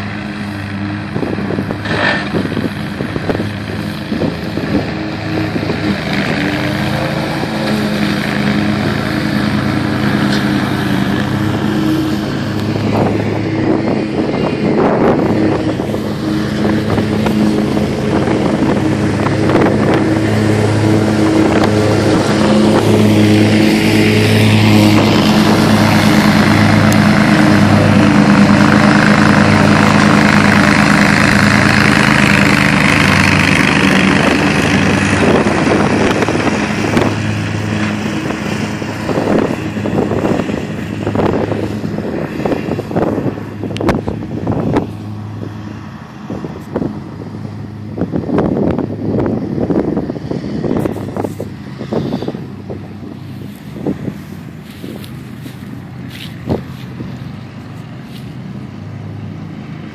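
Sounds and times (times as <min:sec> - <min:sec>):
grass cutting rush: 0:00.0 - 0:59.9
mower engine drone: 0:00.0 - 0:59.9.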